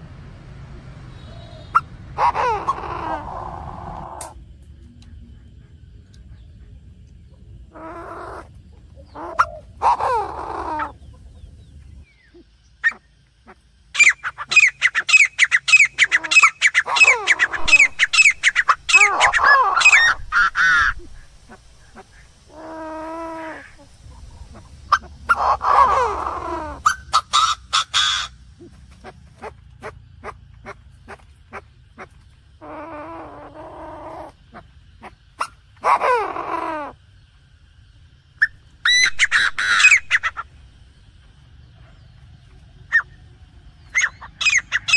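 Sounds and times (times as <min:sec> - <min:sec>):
francolin calling: 0:01.2 - 0:44.9.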